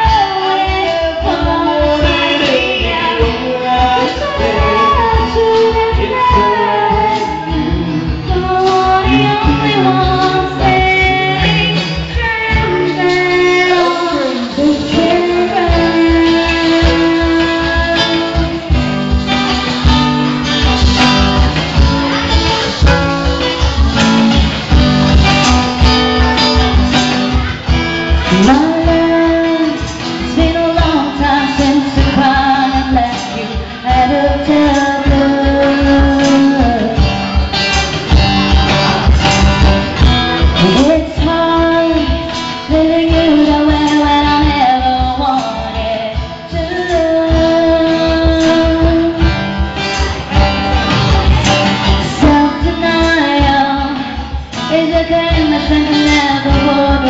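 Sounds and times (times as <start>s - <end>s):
guitar: 0.0s - 57.0s
woman singing: 0.0s - 57.0s.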